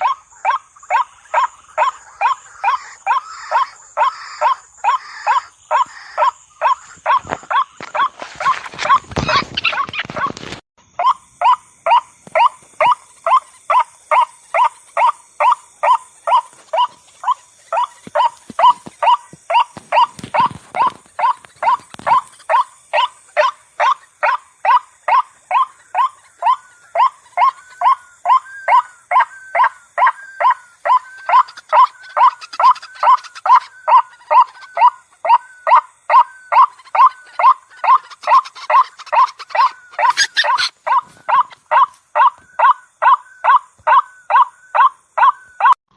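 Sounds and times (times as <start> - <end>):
waterhen calling: 0.0 - 10.4, 11.9 - 45.8.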